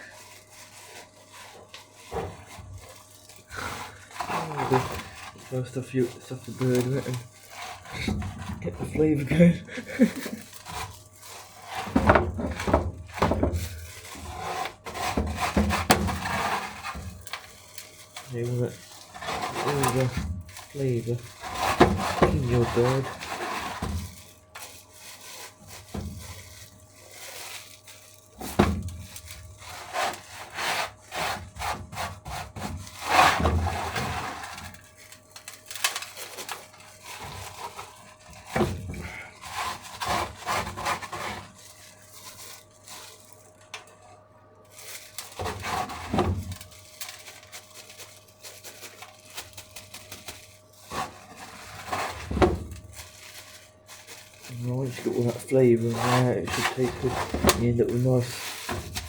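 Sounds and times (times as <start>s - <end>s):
hands rubbing and scraping chicken: 0.0s - 44.0s, 44.7s - 59.0s.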